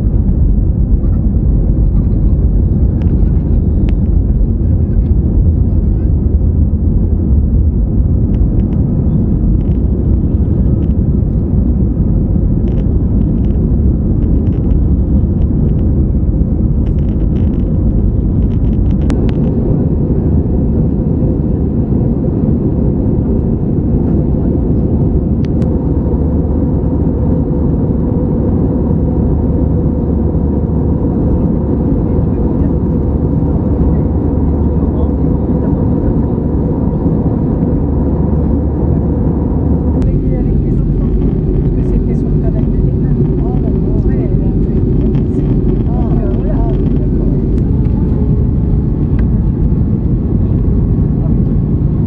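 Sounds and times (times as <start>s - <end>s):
jet engine noise in cabin: 0.0s - 52.0s.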